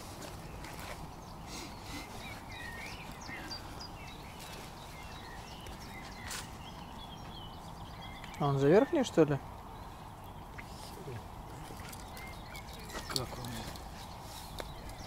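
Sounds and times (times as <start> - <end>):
low outdoor hiss: 0.0 - 15.0
small birds chirping: 0.0 - 15.0.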